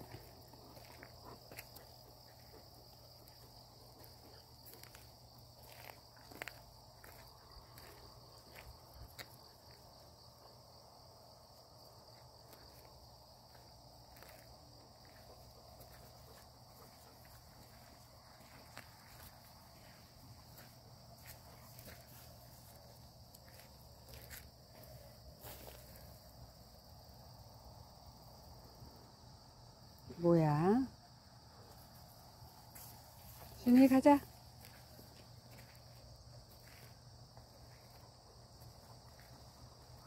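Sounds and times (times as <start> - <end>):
footsteps on dirt path: 0.0 - 10.2, 11.6 - 26.9, 31.7 - 40.0
insects chirring: 0.0 - 40.0.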